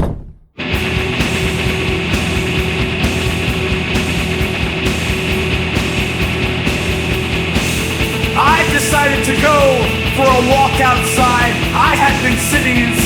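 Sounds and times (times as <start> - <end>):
bass guitar: 0.6 - 13.0
distorted electric guitars: 0.6 - 13.0
drums: 0.6 - 13.0.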